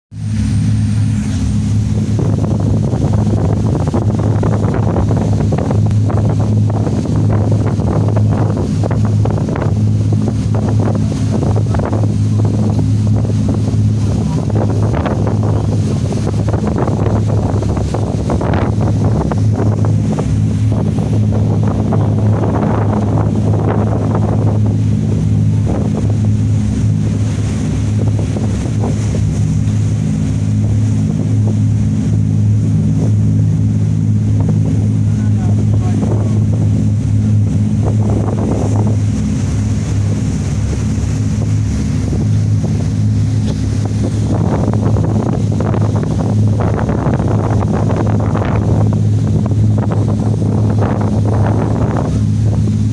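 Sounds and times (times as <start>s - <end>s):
boat engine droning: 0.0s - 52.9s
water splashing: 0.1s - 52.9s
wind buffeting microphone: 0.1s - 52.9s.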